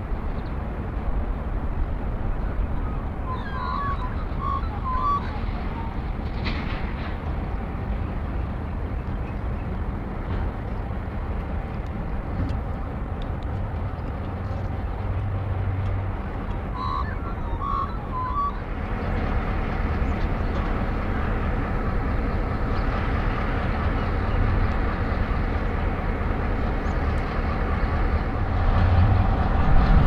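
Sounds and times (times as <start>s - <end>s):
diesel locomotive low rumble: 0.0s - 30.0s.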